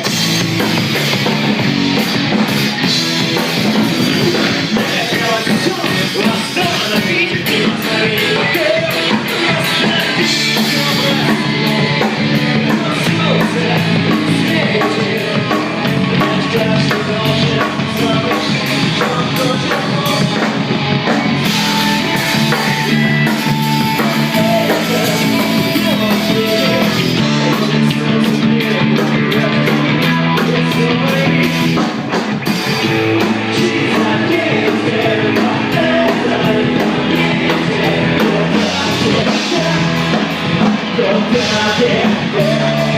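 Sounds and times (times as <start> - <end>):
drum kit: 0.0 - 42.9
rock band playing: 0.0 - 42.9
person singing: 4.0 - 20.7, 21.4 - 42.9.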